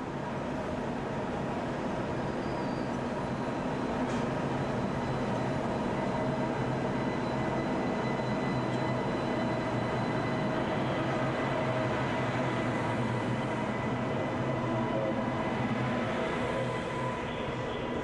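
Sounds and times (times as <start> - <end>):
train humming: 2.9 - 18.0.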